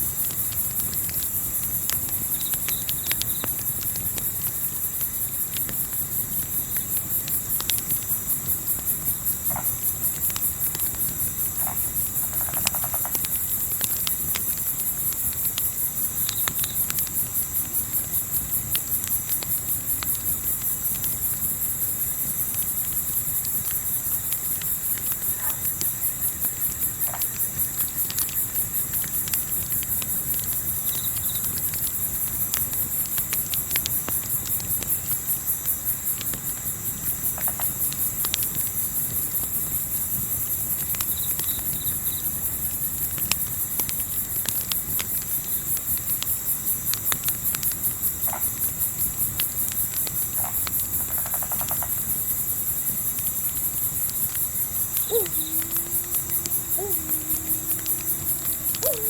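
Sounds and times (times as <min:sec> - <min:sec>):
campfire crackling: 0:00.0 - 0:41.0, 0:51.9 - 0:59.0
crickets and insects chirping: 0:00.0 - 0:59.0.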